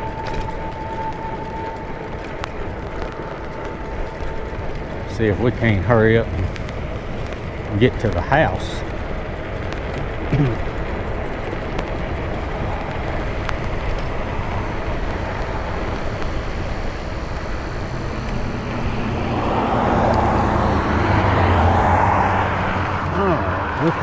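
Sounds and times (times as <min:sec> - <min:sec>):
motor vehicle engine hum: 0:00.0 - 0:24.0
road and wind noise: 0:00.0 - 0:24.0.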